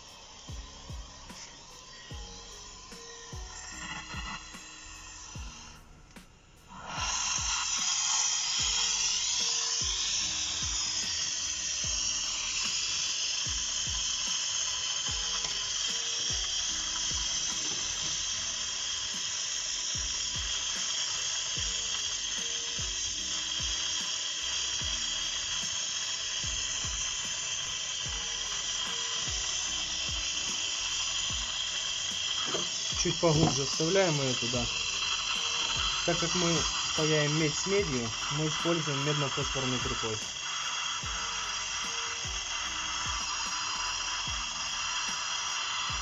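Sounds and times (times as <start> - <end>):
background music with steady beat: 0.0 - 46.0
torch flame hissing: 0.0 - 46.0.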